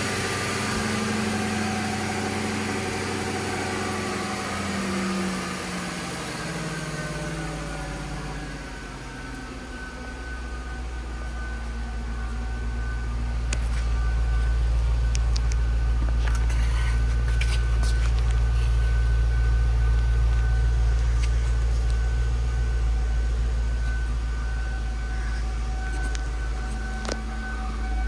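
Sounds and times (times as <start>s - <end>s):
car engine idling: 0.0s - 28.0s
thin steady whine: 0.0s - 28.0s.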